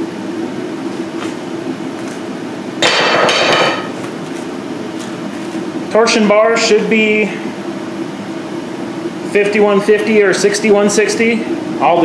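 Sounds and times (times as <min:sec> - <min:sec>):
gas forge humming: 0:00.0 - 0:12.0.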